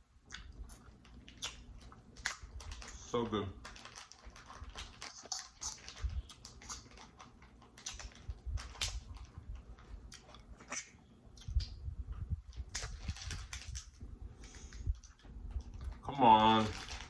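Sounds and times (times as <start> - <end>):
close-up chewing: 0.3 - 17.0.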